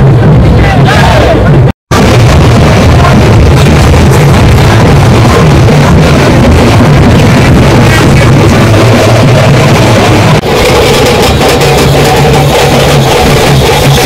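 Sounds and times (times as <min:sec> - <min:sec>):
distorted barrel drums pounding: 0:00.0 - 0:14.0.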